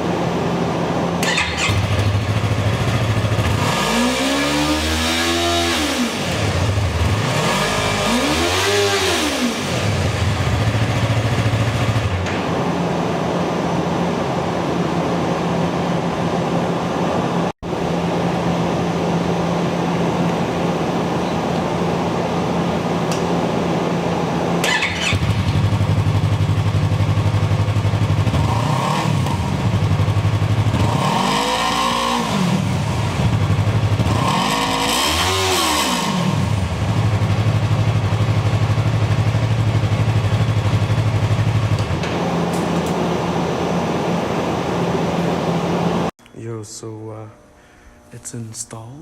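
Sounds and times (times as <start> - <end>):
motorcycle engine idling and revving: 0.0 - 46.1.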